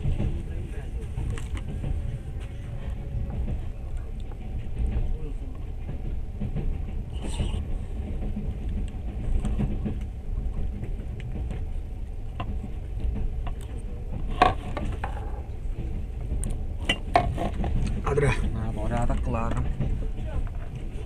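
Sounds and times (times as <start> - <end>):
railway carriage rumbling: 0.0 - 21.0.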